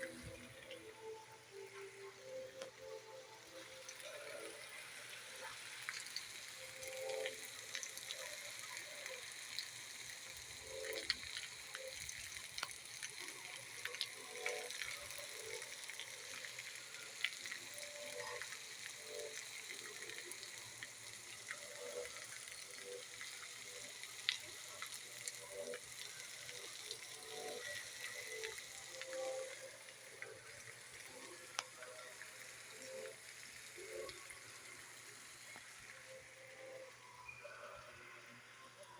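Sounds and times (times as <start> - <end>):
rain falling: 0.0 - 38.9
raindrops ticking on surfaces: 0.0 - 38.9.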